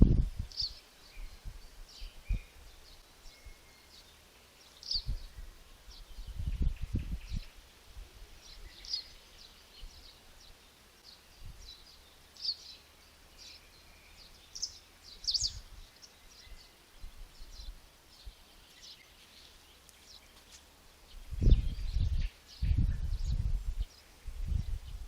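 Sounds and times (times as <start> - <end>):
faint outdoor hiss: 0.0 - 25.0
small birds chirping: 0.0 - 25.0.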